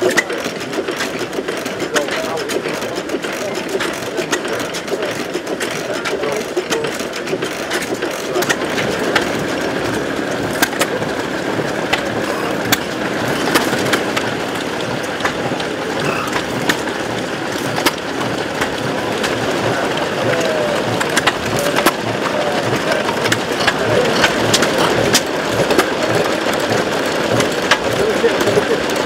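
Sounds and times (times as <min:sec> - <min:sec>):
small stationary engines clattering: 0:00.0 - 0:29.0.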